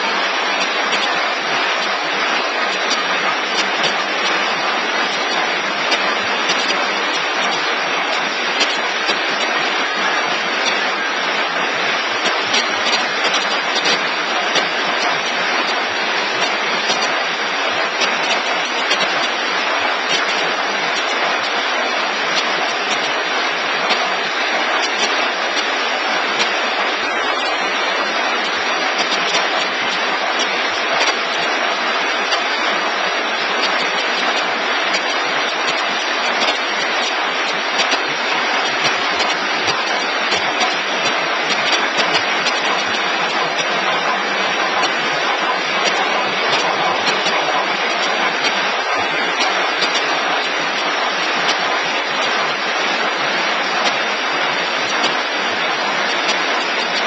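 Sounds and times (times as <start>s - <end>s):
machine hiss: 0.0s - 57.0s
machine clattering: 0.1s - 57.0s.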